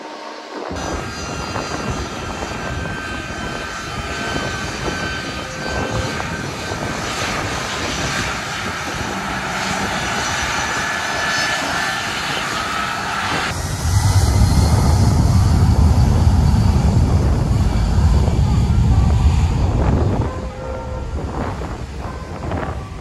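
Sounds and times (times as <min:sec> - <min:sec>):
aircraft engines whining: 0:00.0 - 0:23.0.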